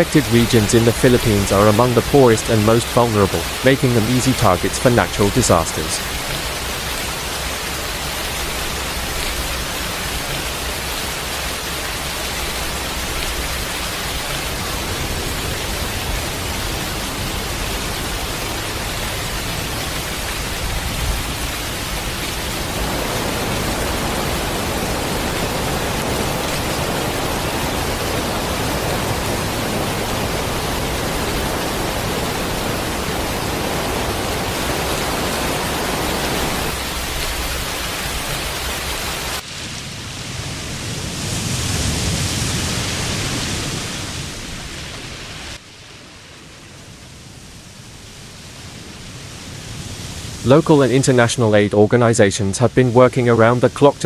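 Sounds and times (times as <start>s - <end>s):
storm rain and rushing water: 0.0s - 54.0s.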